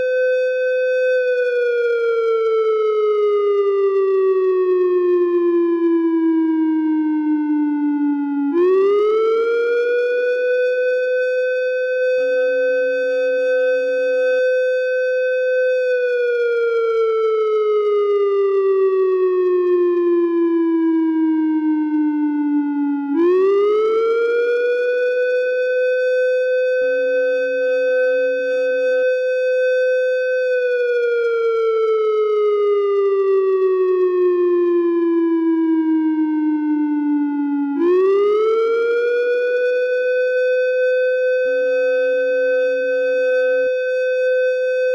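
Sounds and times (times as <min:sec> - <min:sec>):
wailing siren: 0:00.0 - 0:44.9.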